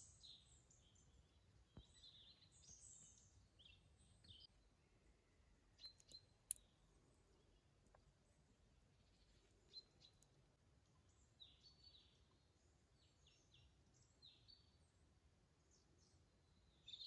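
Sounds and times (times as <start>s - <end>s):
faint bird chirps: 0.0s - 15.0s, 15.6s - 17.0s.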